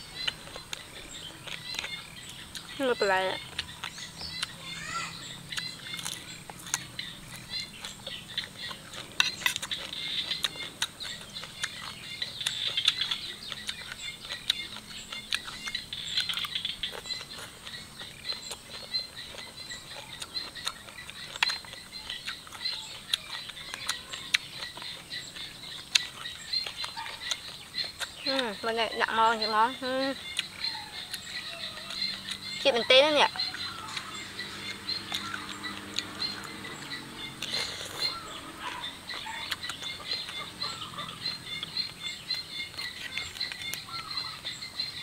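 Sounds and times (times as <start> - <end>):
person chewing food: 0.0 - 2.8, 3.4 - 32.7, 33.3 - 45.0
birds chirping: 0.0 - 45.0.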